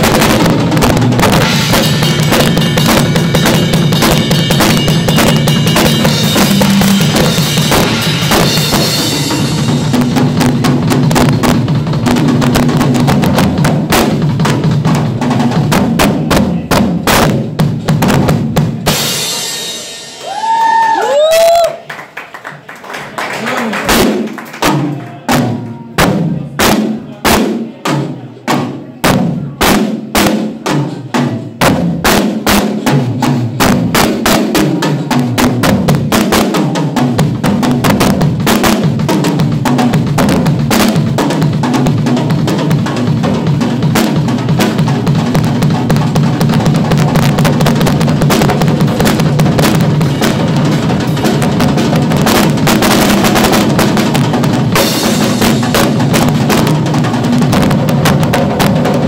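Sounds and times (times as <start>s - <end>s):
rock drum solo: 0.0s - 21.8s, 23.9s - 59.0s.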